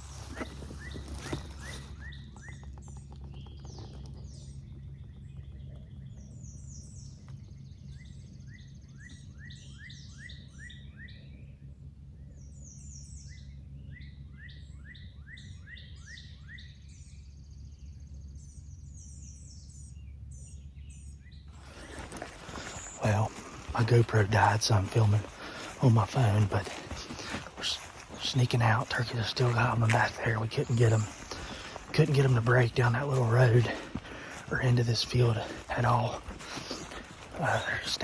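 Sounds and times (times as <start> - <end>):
low background rumble: 0.0 - 38.0
songbirds chirping: 0.0 - 38.0.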